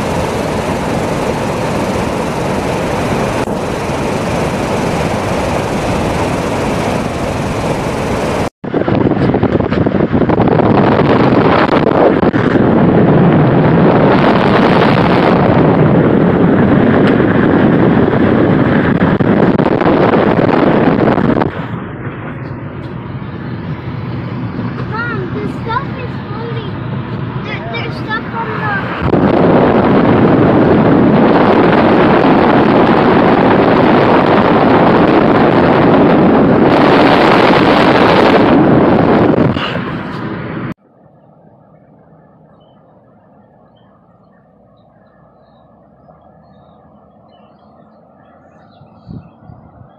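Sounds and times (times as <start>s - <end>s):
wind rushing on microphone: 0.0s - 40.8s, 41.4s - 49.9s
tyre and road noise: 0.0s - 49.9s.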